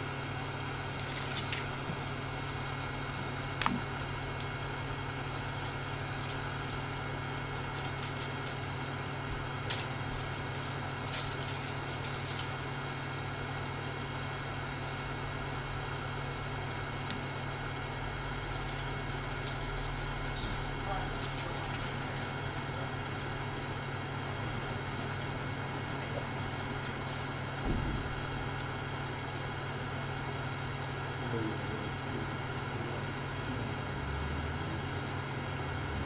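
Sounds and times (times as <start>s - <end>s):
mechanical hum: 0.0s - 36.0s.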